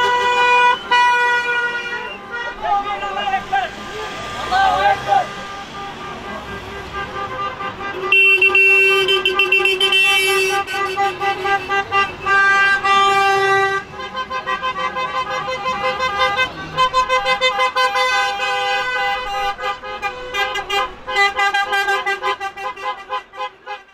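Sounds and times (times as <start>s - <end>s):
car horns honking: 0.0s - 23.9s.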